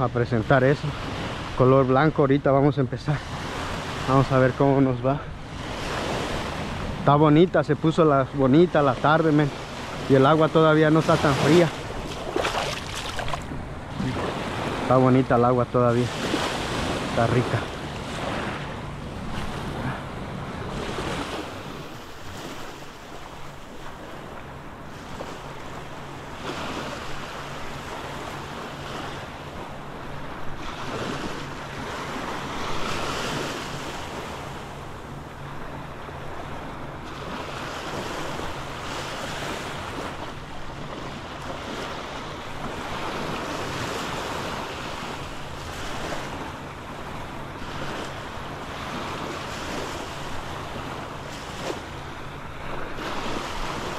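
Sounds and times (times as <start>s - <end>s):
small ocean waves breaking: 0.0s - 53.9s.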